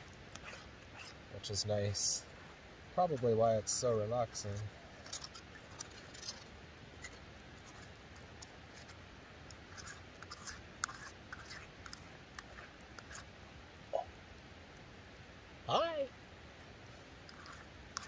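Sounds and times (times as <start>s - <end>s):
small clicks and scratches: 0.0s - 13.5s, 16.8s - 18.0s
low steady hiss: 0.0s - 18.0s.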